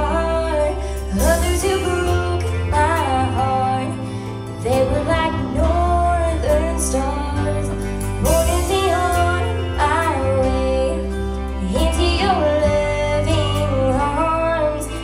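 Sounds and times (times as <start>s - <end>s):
instrumental backing with bass: 0.0s - 15.0s
woman singing country ballad: 0.0s - 15.0s.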